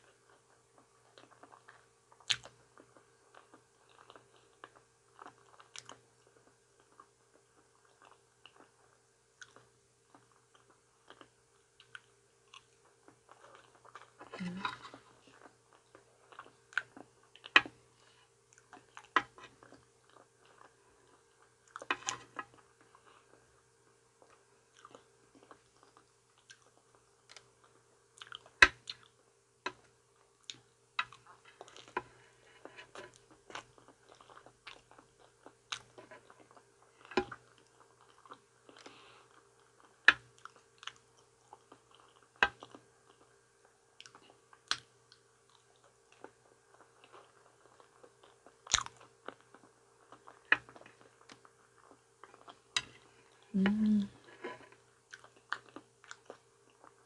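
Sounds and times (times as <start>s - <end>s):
chewing and mouth sounds: 0.0s - 23.4s, 24.2s - 57.0s
faint steady hum: 0.0s - 57.0s.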